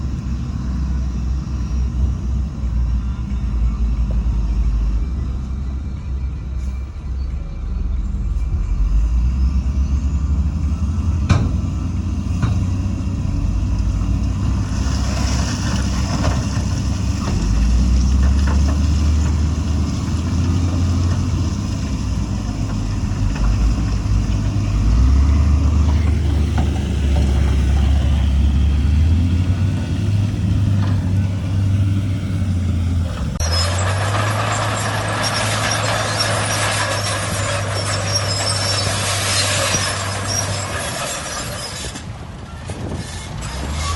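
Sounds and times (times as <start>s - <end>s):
diesel machinery engine: 0.0s - 43.9s.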